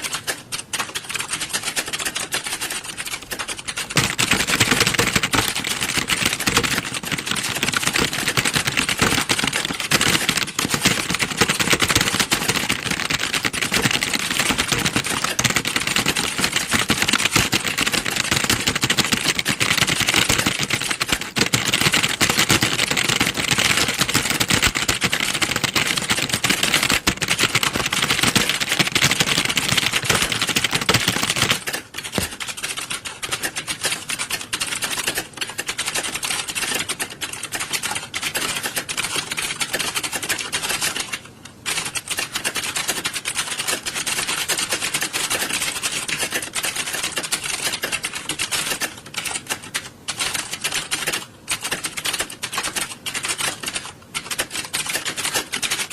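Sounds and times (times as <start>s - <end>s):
many keyboards typing: 0.0s - 55.9s.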